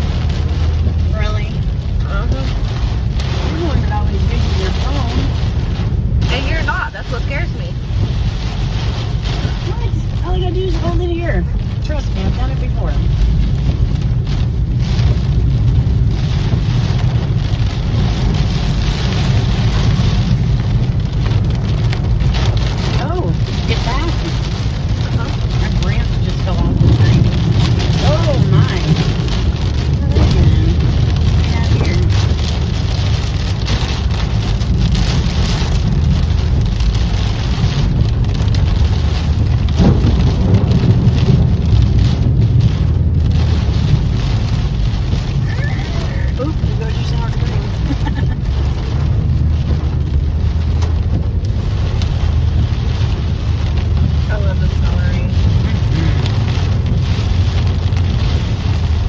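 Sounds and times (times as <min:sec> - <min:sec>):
heavy rain pouring: 0:00.0 - 0:59.0
low thunder rumble: 0:00.0 - 0:59.0.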